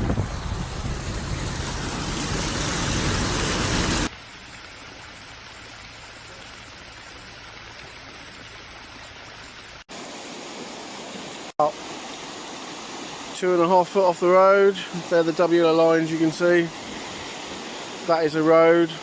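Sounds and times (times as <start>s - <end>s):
rushing floodwater: 0.0s - 19.0s.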